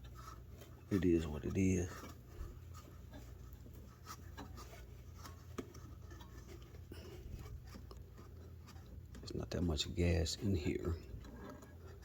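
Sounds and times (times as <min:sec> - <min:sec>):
low steady hum: 0:00.0 - 0:12.0
tools clicking and scratching: 0:00.0 - 0:12.0.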